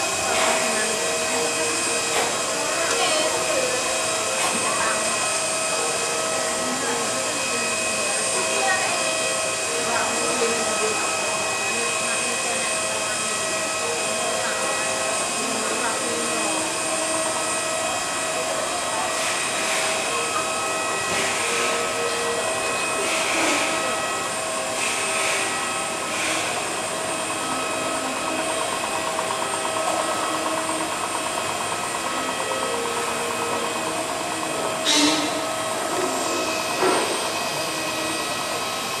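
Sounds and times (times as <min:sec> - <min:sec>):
aircraft engine whine: 0:00.0 - 0:39.0.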